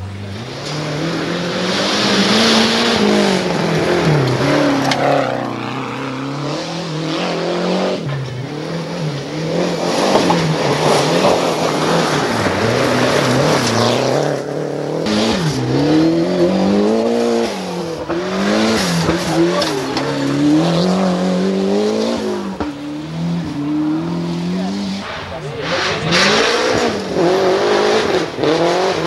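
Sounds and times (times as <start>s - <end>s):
gravel noise: 0.0s - 27.4s
rally car engines revving: 0.0s - 29.0s.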